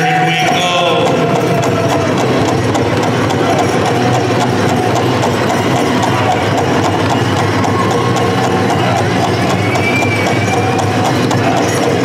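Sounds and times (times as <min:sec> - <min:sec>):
crowded indoor arena din: 0:00.0 - 0:12.0
quick even clicking beat: 0:00.0 - 0:12.0.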